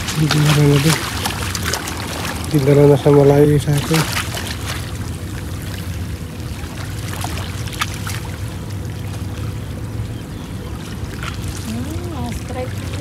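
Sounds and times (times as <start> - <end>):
low rumble: 0.0 - 13.0
waves lapping against rocks: 0.0 - 13.0.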